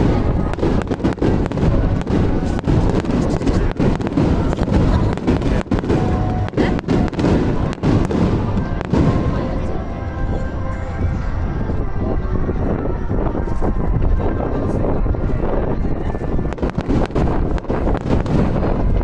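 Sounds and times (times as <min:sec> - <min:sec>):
continuous low rumble: 0:00.0 - 0:19.0
fireworks bangs and crackles: 0:00.0 - 0:19.0.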